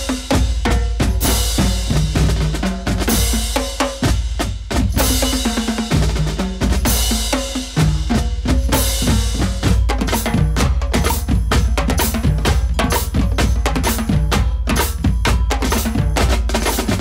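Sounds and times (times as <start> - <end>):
bass drum and snare beat: 0.0 - 17.0.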